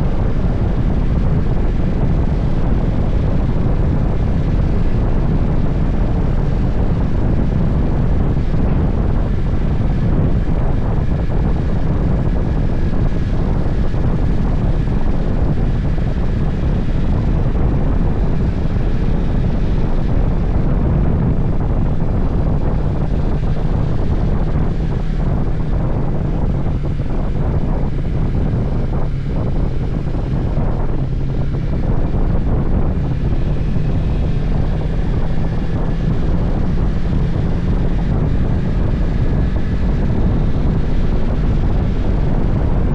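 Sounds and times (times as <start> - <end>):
motorcycle engine hum: 0.0 - 42.9
wind rushing over microphone: 0.0 - 42.9.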